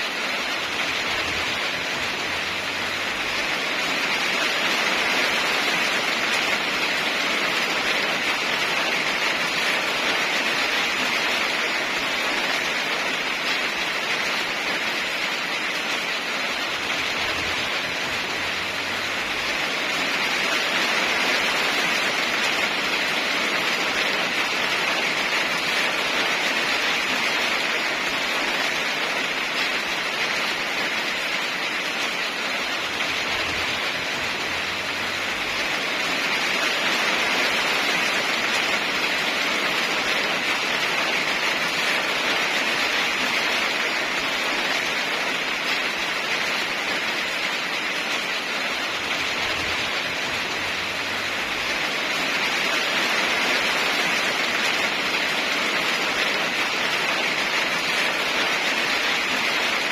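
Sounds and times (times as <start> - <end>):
heavy rainfall hissing: 0.0 - 59.9.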